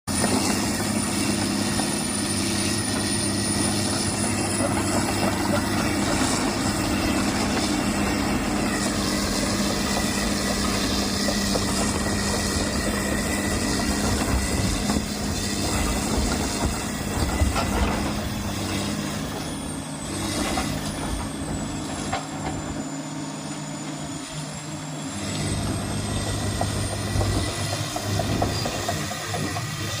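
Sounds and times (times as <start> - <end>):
excavator diesel engine running: 0.1 - 30.0.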